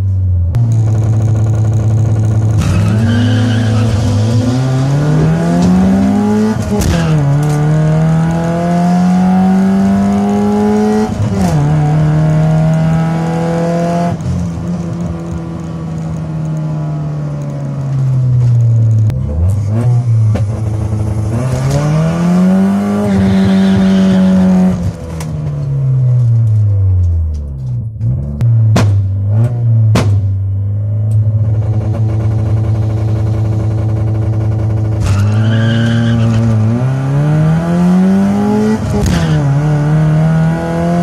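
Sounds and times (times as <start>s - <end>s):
car engine revving: 0.5s - 41.0s.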